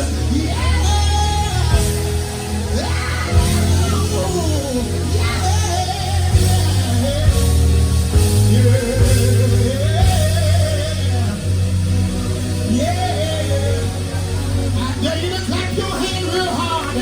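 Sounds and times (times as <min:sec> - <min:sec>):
live gospel band music: 0:00.0 - 0:17.0
person singing: 0:00.0 - 0:17.0.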